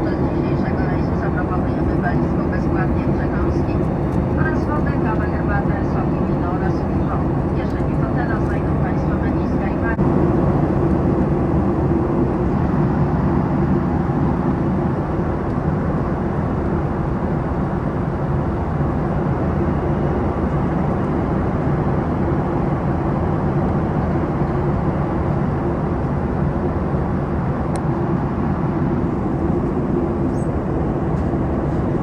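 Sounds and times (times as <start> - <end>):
jet engine drone in cabin: 0.0 - 32.0.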